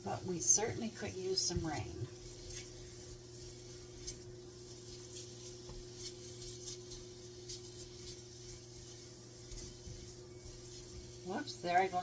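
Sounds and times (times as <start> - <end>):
faint sizzling: 0.0 - 12.0
steady low hum: 0.0 - 12.0
spatula scraping frying pan: 0.1 - 12.0.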